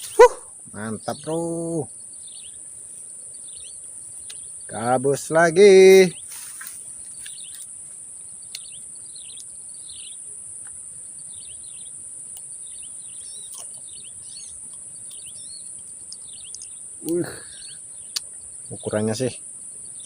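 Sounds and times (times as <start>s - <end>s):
birds chirping: 0.0s - 20.0s
insects droning: 0.0s - 20.0s.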